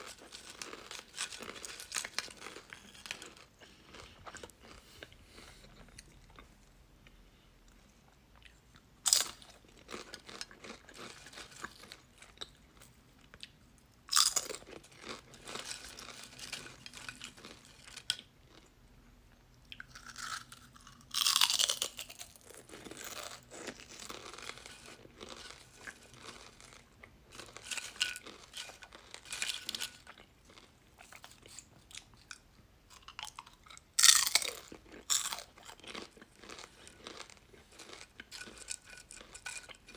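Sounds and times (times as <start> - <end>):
chips crunching when chewed: 0.0 - 6.5, 9.1 - 18.7, 19.7 - 39.9.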